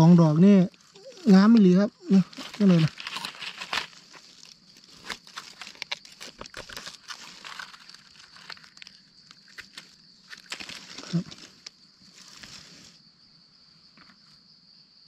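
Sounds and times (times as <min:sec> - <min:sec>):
dry leaves and twigs crackling: 0:00.0 - 0:13.0.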